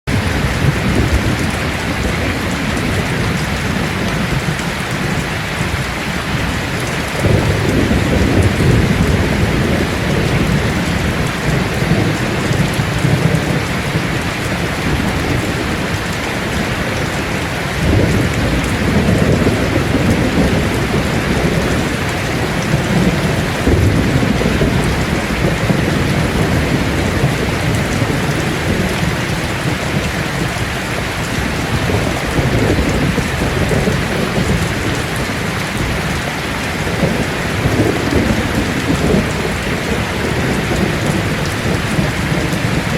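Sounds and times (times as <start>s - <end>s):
heavy rain on a tin roof: 0.0s - 42.9s
thunder rumbling: 0.1s - 42.9s.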